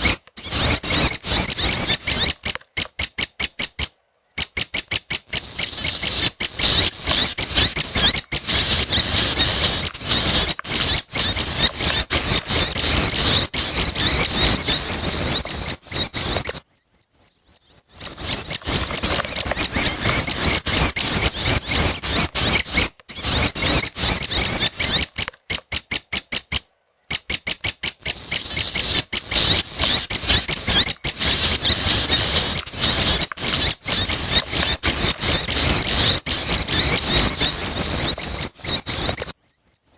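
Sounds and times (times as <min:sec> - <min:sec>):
bird chicks chattering: 0:00.0 - 0:39.9.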